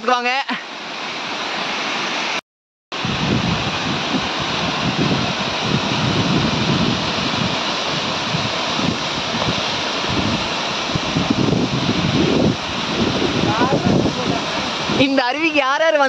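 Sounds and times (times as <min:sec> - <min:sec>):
waterfall rushing: 0:00.0 - 0:02.4, 0:03.0 - 0:16.0.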